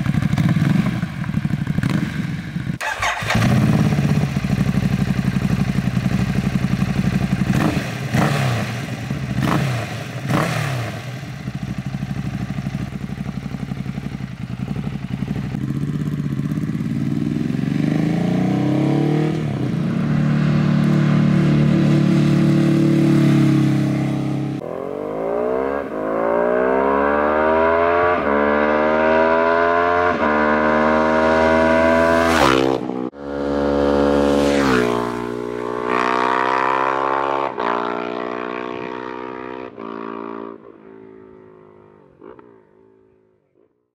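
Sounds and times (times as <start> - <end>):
motorcycle accelerating through gears: 0.0 - 43.6
motorcycle engine revving: 0.0 - 43.6.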